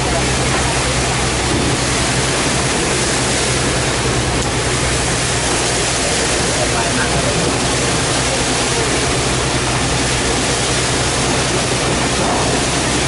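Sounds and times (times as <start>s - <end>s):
boat engine droning: 0.0s - 13.0s
water rushing past hull: 0.0s - 13.0s.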